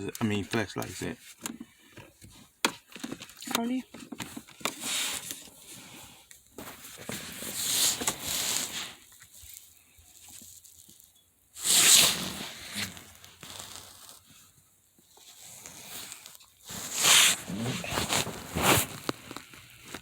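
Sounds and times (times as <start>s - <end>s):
hands rustling and scraping parts: 0.0s - 20.0s.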